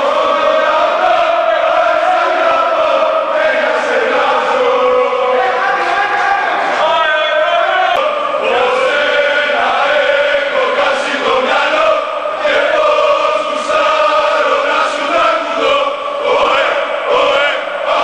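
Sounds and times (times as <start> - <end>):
crowd singing a chant: 0.0 - 18.0.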